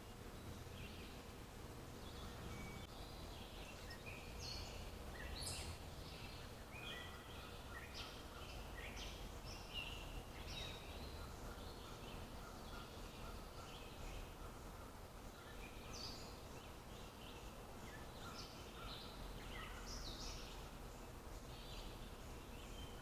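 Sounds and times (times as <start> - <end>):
wild birds chirping: 0.0 - 23.0.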